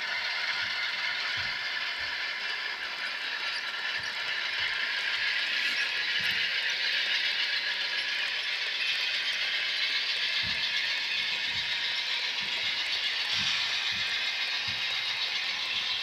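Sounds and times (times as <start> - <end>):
model train wheels whirring: 0.0 - 16.0.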